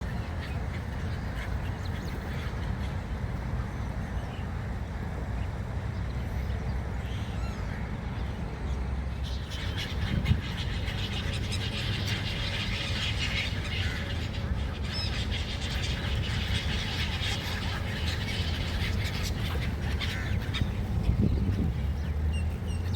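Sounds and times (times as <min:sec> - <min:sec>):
gulls calling: 0:00.0 - 0:22.9.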